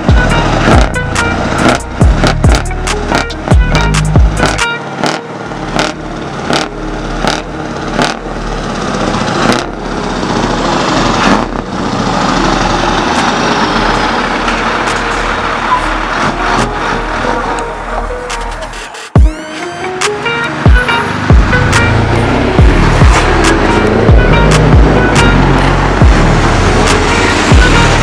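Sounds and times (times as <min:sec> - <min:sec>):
truck diesel engine driving past: 0:00.0 - 0:18.7, 0:19.7 - 0:28.0.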